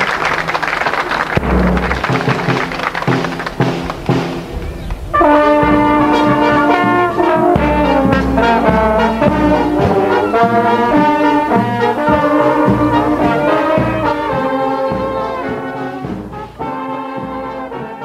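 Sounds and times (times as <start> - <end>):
brass band music: 0.0 - 18.0
low drum strokes: 1.4 - 18.0.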